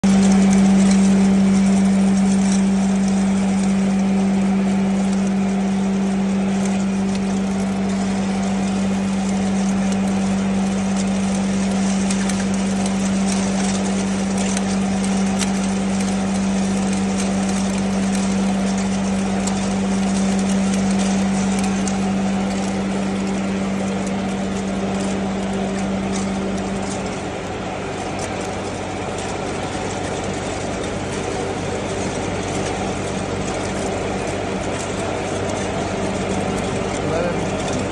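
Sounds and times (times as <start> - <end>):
grinding machine humming: 0.0 - 37.9
small ticks: 0.0 - 37.9.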